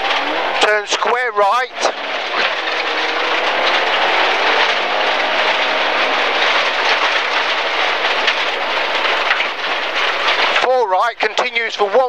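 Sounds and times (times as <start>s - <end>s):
tyre noise on gravel: 0.0s - 10.6s.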